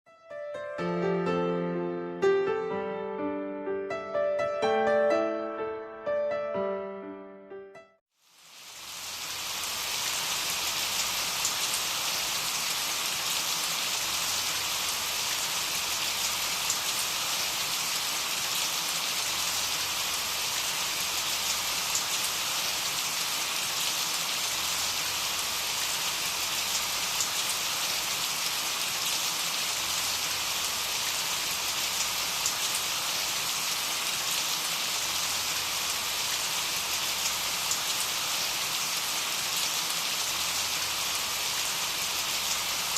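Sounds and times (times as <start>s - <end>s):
steady rain hiss: 8.2s - 42.9s.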